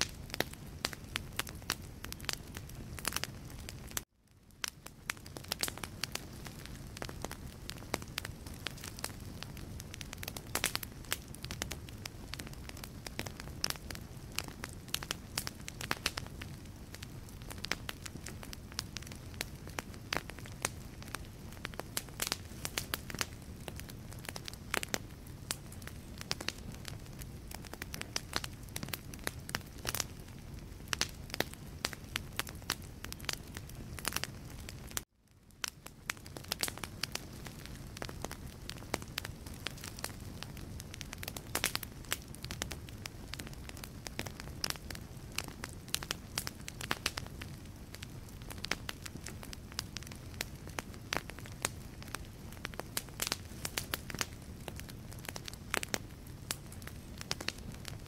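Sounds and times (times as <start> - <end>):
low rush of flames: 0.0 - 58.0
wood fire crackling: 0.0 - 58.0.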